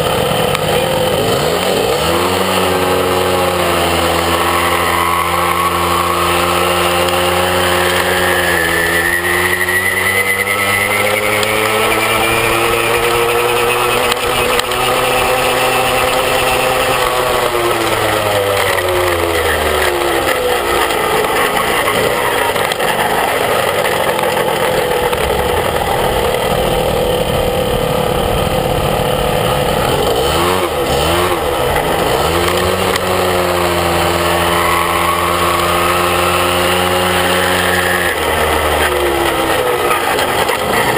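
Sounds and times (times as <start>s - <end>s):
moped engine running: 0.0s - 40.9s.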